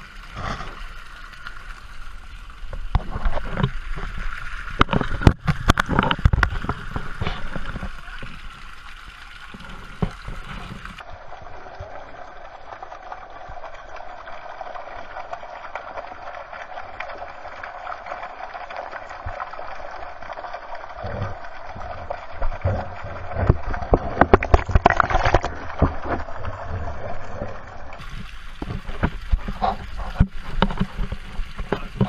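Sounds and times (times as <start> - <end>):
fountain water splashing: 0.0 - 32.0.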